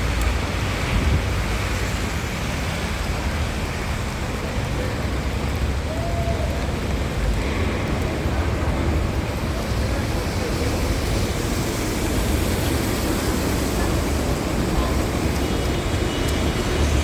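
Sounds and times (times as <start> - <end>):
rain on a street: 0.0 - 17.0
road traffic: 0.0 - 17.0.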